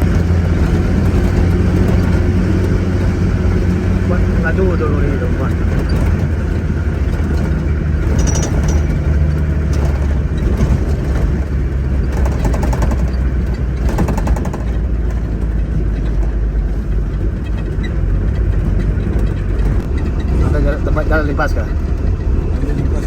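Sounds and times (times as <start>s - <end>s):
heavy diesel engine running: 0.0s - 23.0s
metallic rattling: 0.0s - 23.0s.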